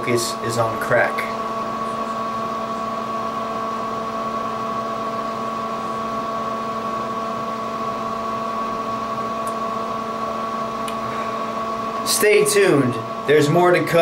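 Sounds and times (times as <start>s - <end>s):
ventilation fan humming: 0.0s - 14.0s.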